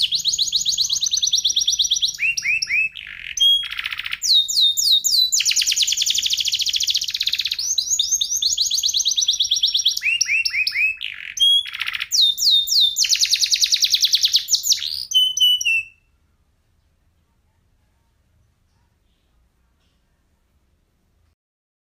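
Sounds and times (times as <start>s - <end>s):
canary singing trills: 0.0s - 20.3s.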